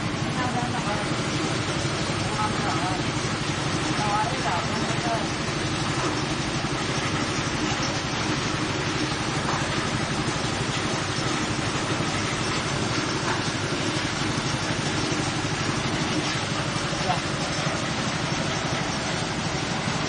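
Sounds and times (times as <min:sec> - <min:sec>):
machine engine running: 0:00.0 - 0:20.0.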